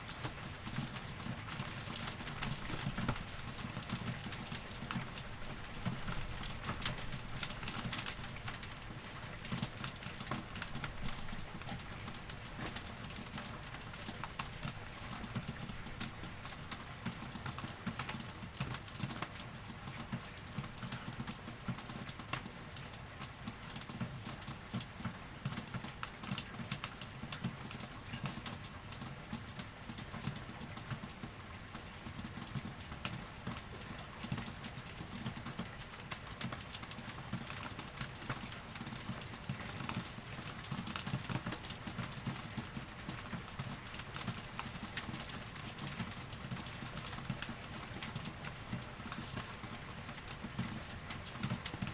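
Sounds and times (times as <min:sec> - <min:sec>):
rain pattering on hard surfaces: 0:00.0 - 0:51.9.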